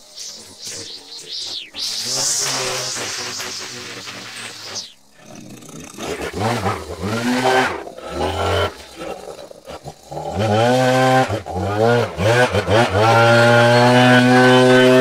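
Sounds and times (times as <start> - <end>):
leaf blower engine revving: 0.2 - 15.0.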